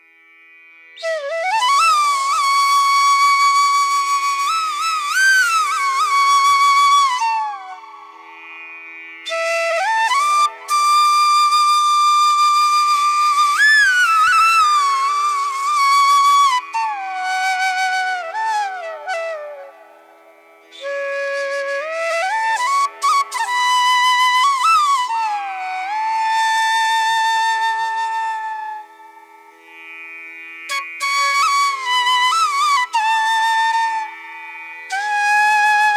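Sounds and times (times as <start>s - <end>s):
solo flute melody: 0.9s - 8.6s, 9.2s - 29.7s, 30.7s - 35.9s.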